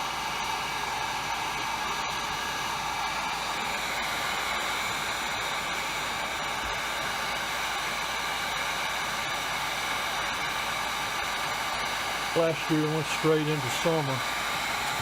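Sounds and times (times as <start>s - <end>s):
hot-air blower hissing: 0.0s - 15.0s.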